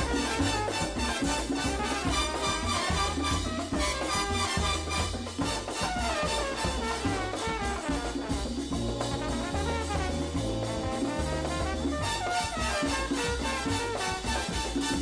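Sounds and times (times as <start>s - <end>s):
bass line: 0.0s - 15.0s
drums: 0.0s - 15.0s
trumpets and trombones: 0.0s - 15.0s.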